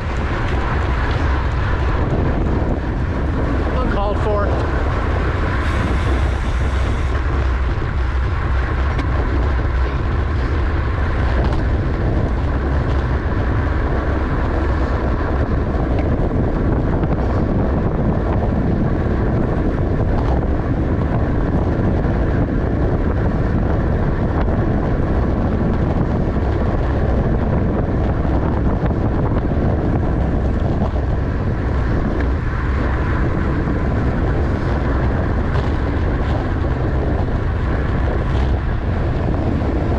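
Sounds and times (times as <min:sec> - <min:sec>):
bicycle rumbling over road: 0:00.0 - 0:39.9
wind rushing on microphone: 0:00.0 - 0:39.9.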